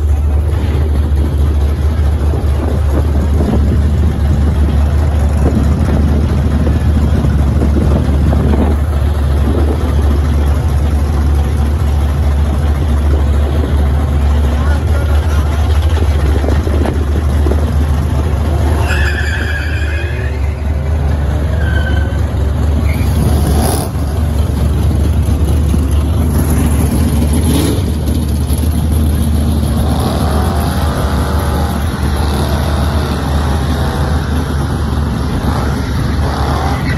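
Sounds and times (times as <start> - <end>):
car engines revving hard: 0.0 - 36.9.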